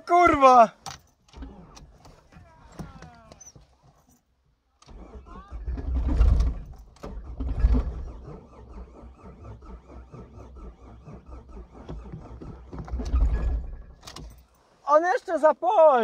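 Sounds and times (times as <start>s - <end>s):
engine cranking without firing: 0.0s - 14.8s.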